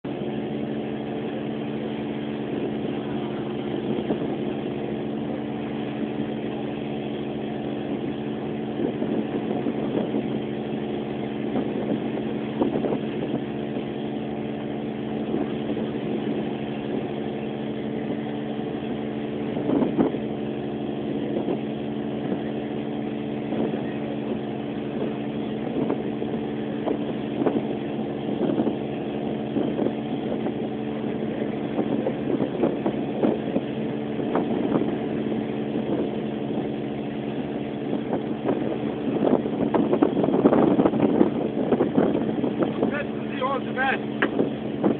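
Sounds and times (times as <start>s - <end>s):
boat engine running steadily: 0.0s - 44.9s.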